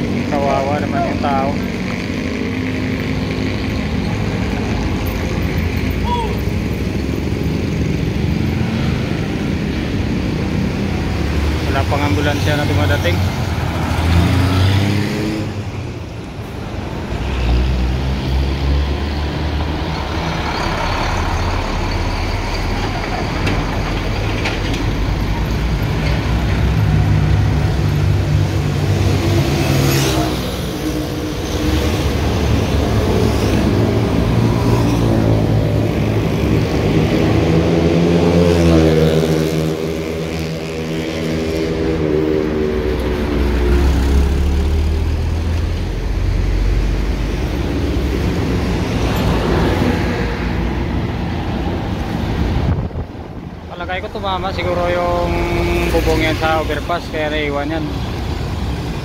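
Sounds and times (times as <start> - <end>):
heavy road traffic passing: 0.0 - 59.0
large vehicles passing by: 0.0 - 59.0.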